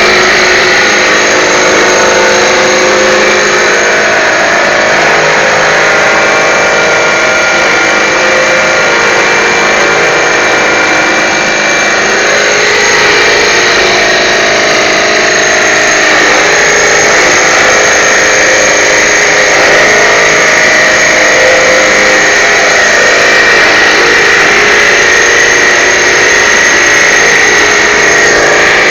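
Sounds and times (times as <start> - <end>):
pillar drill running: 0.0 - 28.9
vacuum whining: 0.0 - 28.9.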